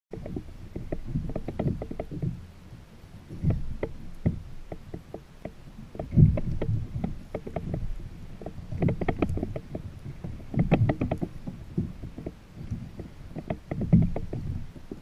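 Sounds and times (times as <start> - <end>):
water slapping against kayak hull: 0.1 - 2.5, 3.2 - 15.0.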